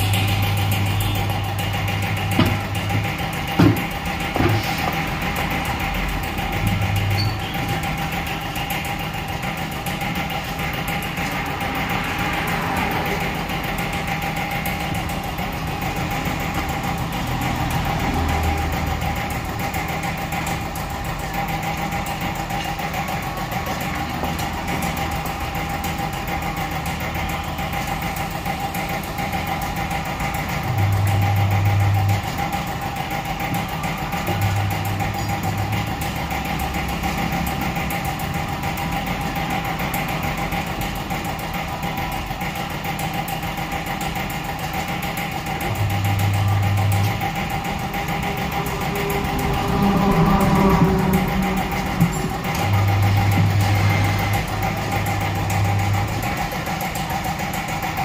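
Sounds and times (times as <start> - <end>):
steady mechanical hum: 0.0 - 58.0
tyre-changer turntable motor running: 0.0 - 58.0.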